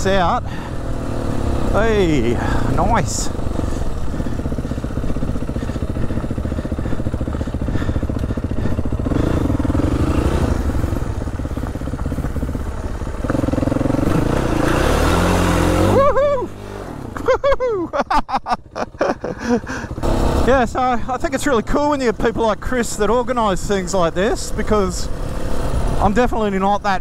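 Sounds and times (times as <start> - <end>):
motorcycle engine revving: 0.0 - 17.4, 18.7 - 27.0.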